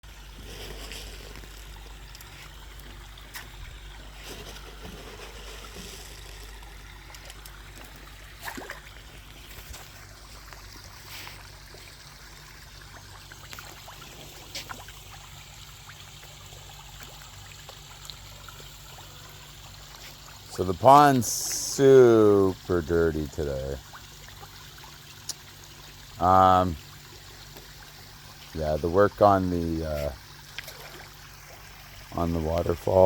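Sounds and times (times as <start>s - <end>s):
waterfall trickling and splashing: 0.0s - 33.0s.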